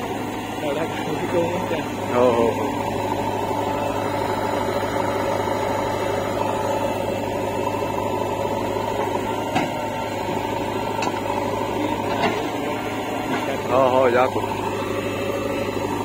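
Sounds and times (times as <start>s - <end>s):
diesel engines droning: 0.0s - 16.0s.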